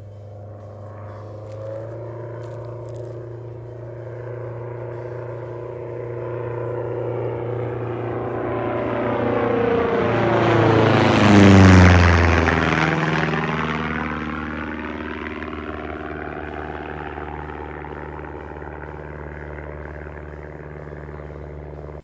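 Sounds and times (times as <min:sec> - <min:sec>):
plane engine and propeller passing: 0:00.0 - 0:22.0.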